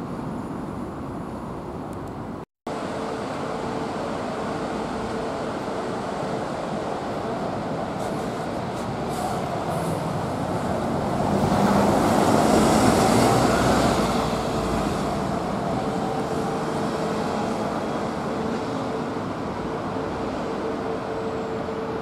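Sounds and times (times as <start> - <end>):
vehicle running noise: 2.7 - 22.0.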